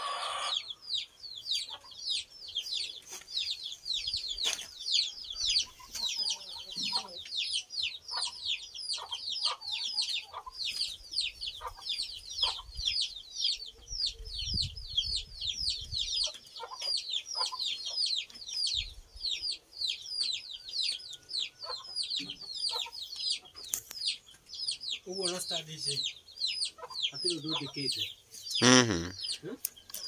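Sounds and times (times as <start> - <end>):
chicks peeping: 0.0 - 30.0.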